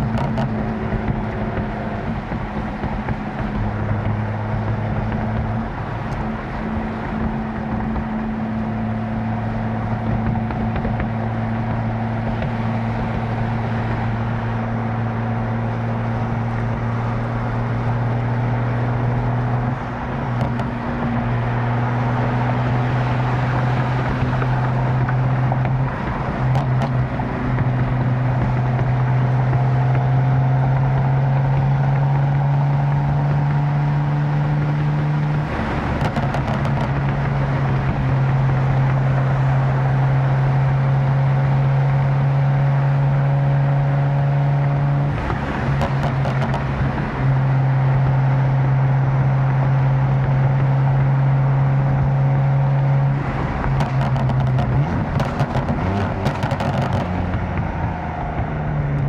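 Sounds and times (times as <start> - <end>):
car engine droning: 0.0 - 59.0
exhaust crackles and pops: 0.0 - 59.0.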